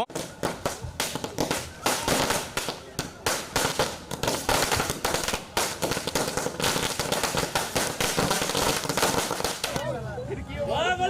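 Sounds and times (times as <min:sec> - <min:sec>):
firecrackers banging: 0:00.0 - 0:10.0.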